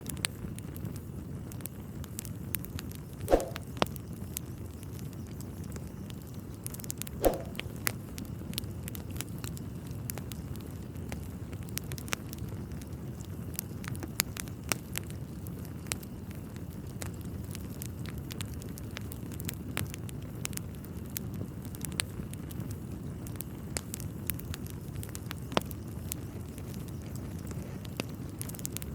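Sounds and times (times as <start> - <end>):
wood fire crackling: 0.1 - 28.9
loud fire pops: 2.9 - 4.4, 6.9 - 28.9.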